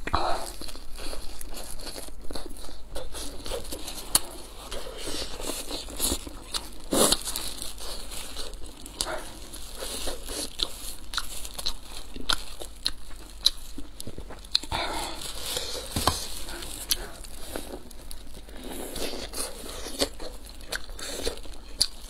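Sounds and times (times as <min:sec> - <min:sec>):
plastic gloves crinkling: 0:00.0 - 0:22.0
crisp crust tearing and crackling: 0:00.2 - 0:22.0.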